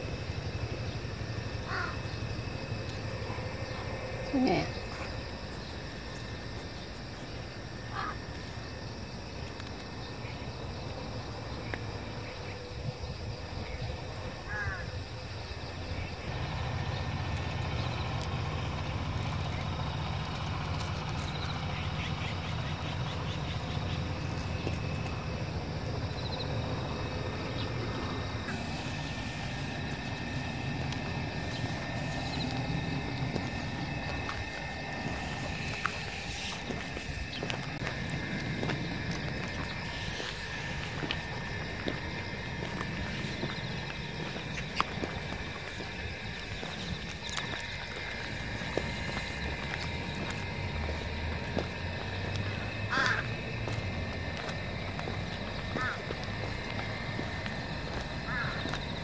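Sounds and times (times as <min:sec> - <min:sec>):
faint insect trilling: 0:00.0 - 0:59.0
steady low rumble: 0:00.0 - 0:59.0.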